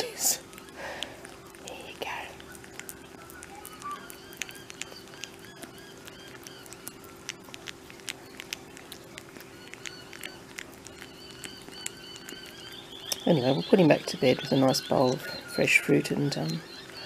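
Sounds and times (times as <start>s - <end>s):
animal lapping and chewing: 0.0s - 17.0s
faint high chirps: 0.0s - 17.0s
steady low hum: 0.0s - 17.0s.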